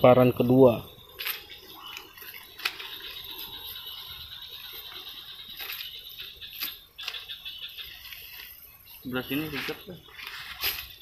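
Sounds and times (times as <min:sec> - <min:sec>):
net sinkers clicking and rattling: 0:01.0 - 0:11.0.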